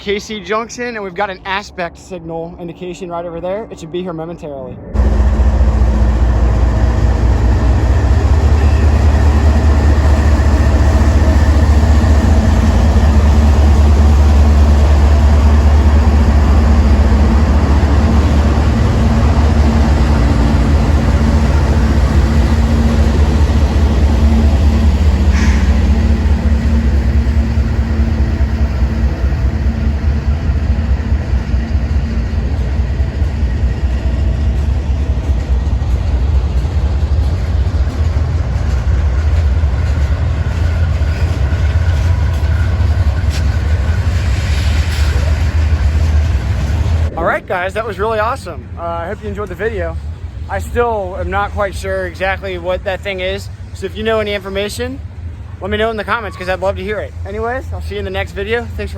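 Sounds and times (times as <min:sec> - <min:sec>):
locomotive engine rumble: 0:04.8 - 0:58.9
freight cars rolling rhythmically: 0:05.0 - 0:58.9.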